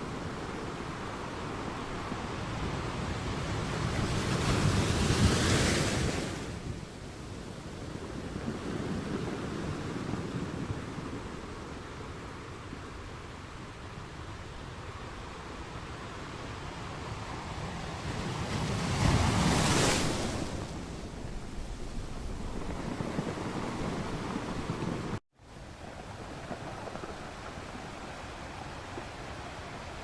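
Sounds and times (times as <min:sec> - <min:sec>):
waves breaking and washing back: 0:00.0 - 0:25.2, 0:25.8 - 0:30.0
steady rush of sea: 0:00.0 - 0:30.0.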